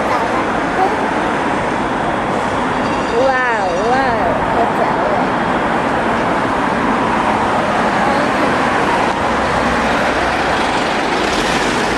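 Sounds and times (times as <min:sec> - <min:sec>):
vehicle rumble in traffic: 0:00.0 - 0:11.9.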